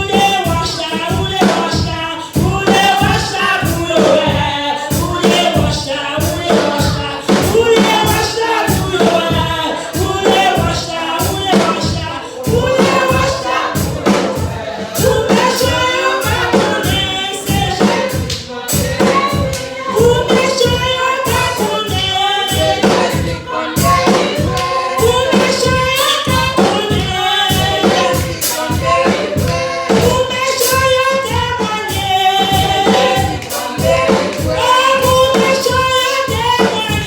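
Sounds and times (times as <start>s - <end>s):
group singing worship song: 0.0s - 37.0s
percussion beat: 0.0s - 37.0s.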